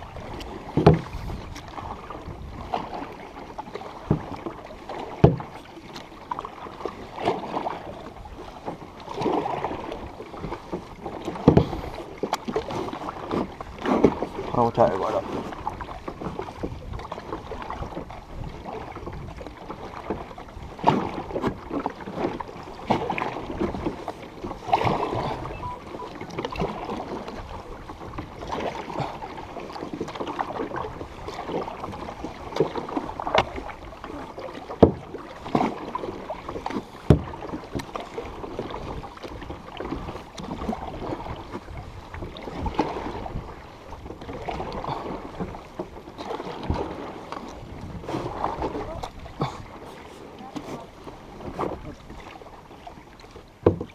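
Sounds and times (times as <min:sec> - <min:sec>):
paddle pulling through water: 0:00.0 - 0:53.9.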